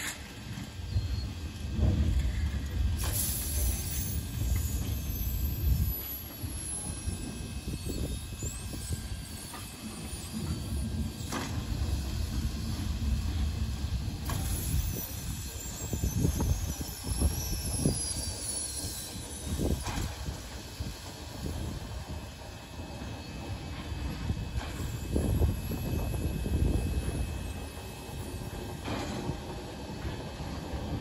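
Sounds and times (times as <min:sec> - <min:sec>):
steam hiss: 0:00.0 - 0:31.0.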